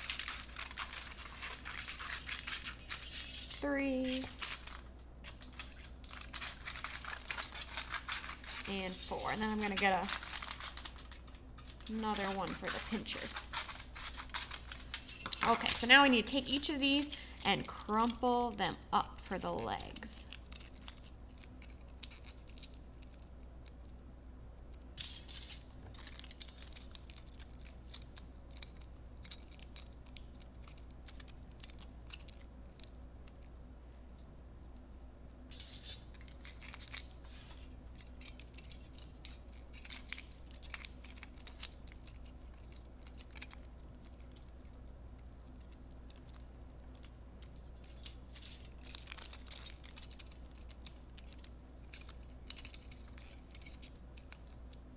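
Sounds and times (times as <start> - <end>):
aluminium foil crinkling: 0.0 - 24.0, 24.6 - 54.9.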